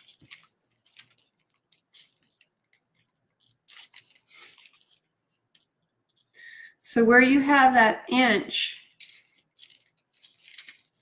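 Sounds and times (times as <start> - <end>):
plastic rustling: 0.0 - 6.7, 8.6 - 11.0.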